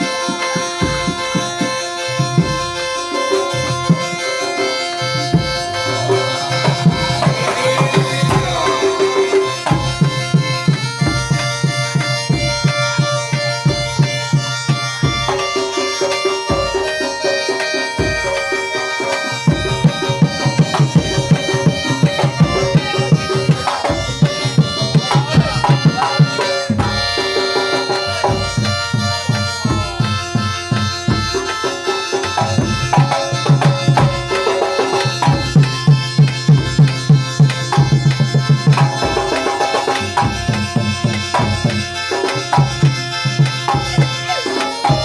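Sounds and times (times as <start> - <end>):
fast hand-drum beat: 0.0 - 45.0
long held melody notes: 0.0 - 45.0.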